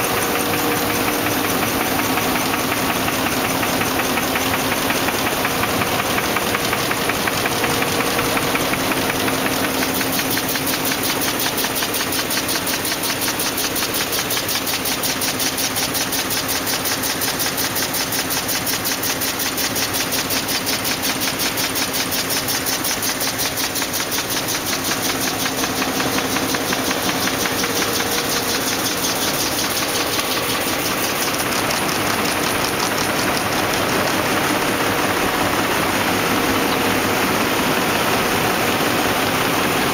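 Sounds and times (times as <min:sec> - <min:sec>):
machine clattering: 0:00.0 - 0:39.9.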